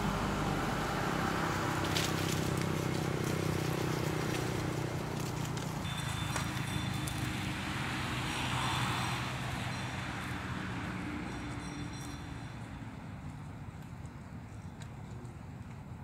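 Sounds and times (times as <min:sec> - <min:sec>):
distant engine hum: 0:00.0 - 0:16.0.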